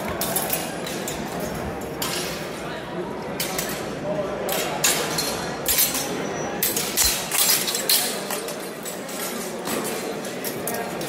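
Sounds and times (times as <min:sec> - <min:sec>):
swords clashing and clinking: 0:00.0 - 0:02.6, 0:03.4 - 0:11.0
background talk: 0:00.0 - 0:11.0.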